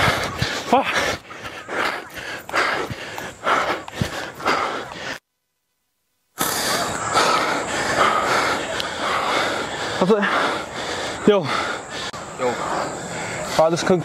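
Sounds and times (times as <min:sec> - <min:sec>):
person breathing hard: 0:00.0 - 0:05.2, 0:06.4 - 0:14.0.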